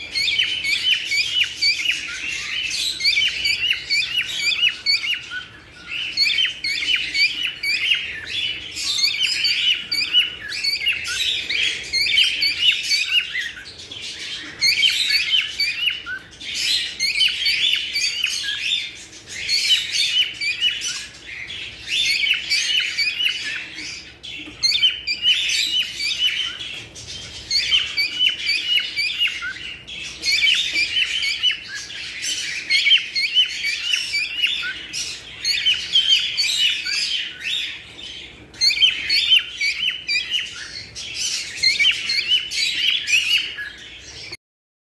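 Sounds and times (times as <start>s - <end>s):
cockatiels chirping and chattering: 0.0s - 44.4s.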